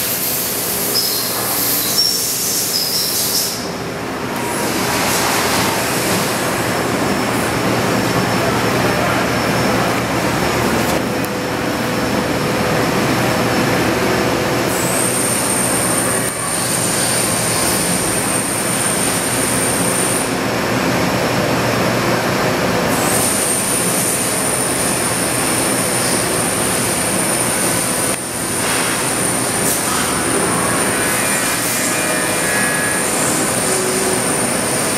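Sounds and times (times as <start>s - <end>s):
machine shop hum: 0.0s - 34.9s.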